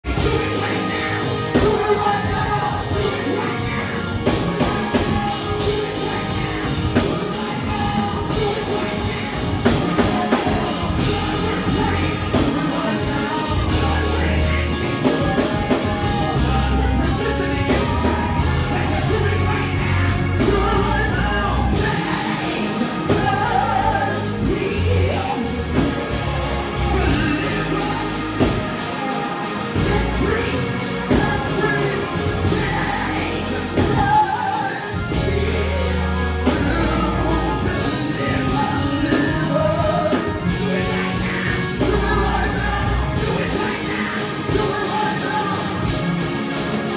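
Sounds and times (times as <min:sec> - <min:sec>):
gospel band with heavy bass: 0:00.0 - 0:46.9
singers on microphones: 0:00.0 - 0:46.9.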